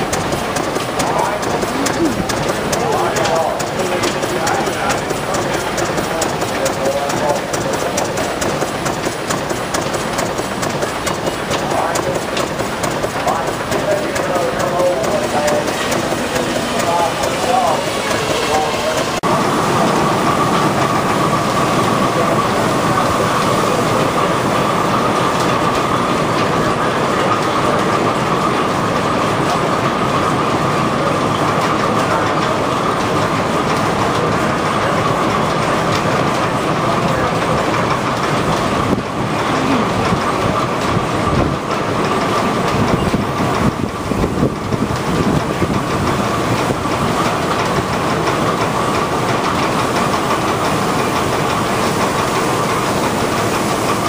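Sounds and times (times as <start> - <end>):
belt-driven machinery clatter: 0.0 - 54.0
machinery whine: 0.0 - 54.0.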